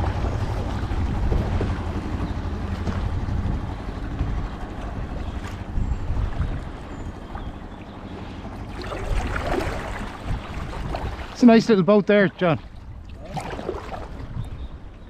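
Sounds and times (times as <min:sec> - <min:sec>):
wind rumbling on microphone: 0:00.0 - 0:11.6, 0:12.5 - 0:15.0
sea water lapping: 0:00.0 - 0:15.0.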